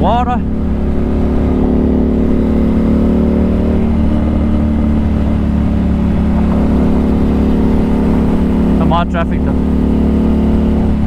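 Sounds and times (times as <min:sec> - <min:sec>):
motorcycle engine cruising: 0:00.0 - 0:11.0
wind and road noise rumble: 0:00.0 - 0:11.0.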